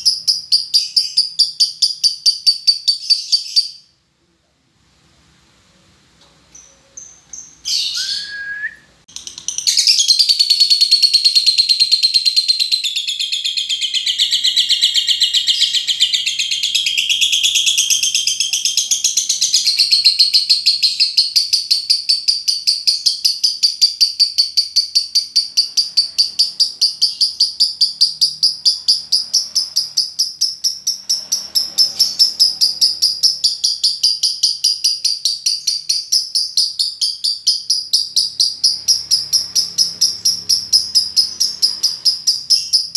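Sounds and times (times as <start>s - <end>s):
lovebird chattering trill: 0.0s - 3.9s, 9.1s - 42.9s.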